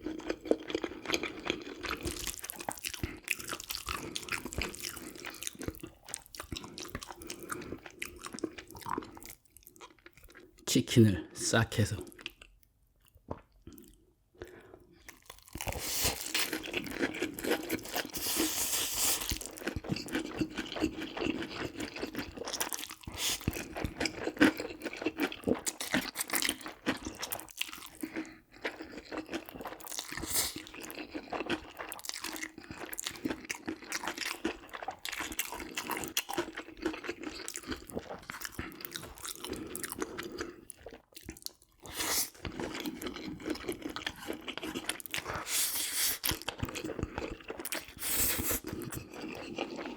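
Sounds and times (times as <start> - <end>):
crunching and chewing fried chicken: 0.0 - 10.6, 12.0 - 49.9.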